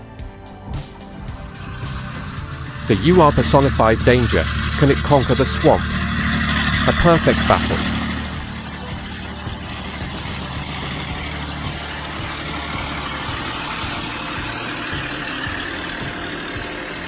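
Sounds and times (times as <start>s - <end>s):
truck engine rumbling: 1.0s - 17.0s.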